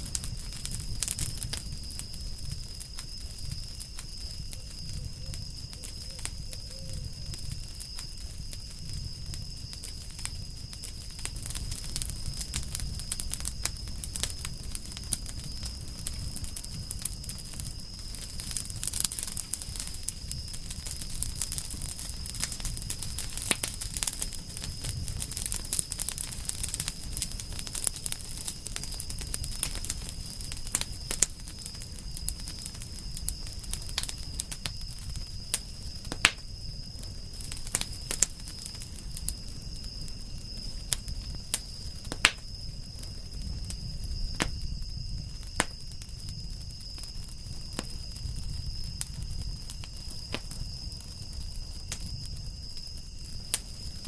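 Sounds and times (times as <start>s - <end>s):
campfire crackling and popping: 0.0s - 54.0s
low rumble of flames: 0.0s - 54.0s.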